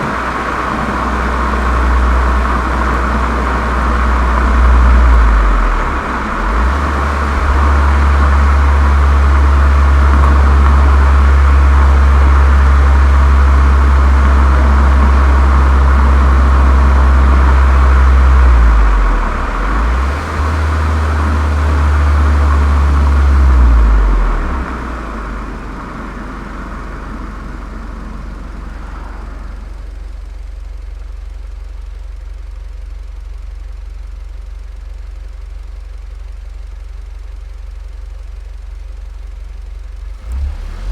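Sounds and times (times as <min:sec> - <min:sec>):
road rush: 0:00.0 - 0:32.1, 0:40.0 - 0:40.9
car engine droning: 0:00.0 - 0:40.9
car engine idling: 0:00.0 - 0:40.9.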